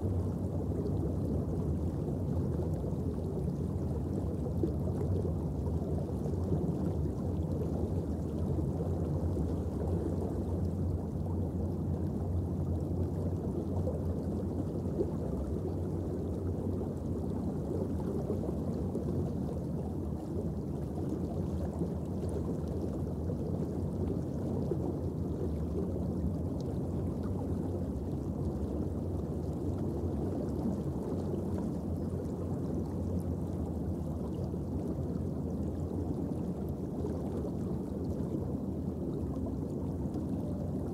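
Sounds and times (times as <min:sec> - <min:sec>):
faint low hum: 0:00.0 - 0:40.9
underwater rumble and hiss: 0:00.0 - 0:40.9.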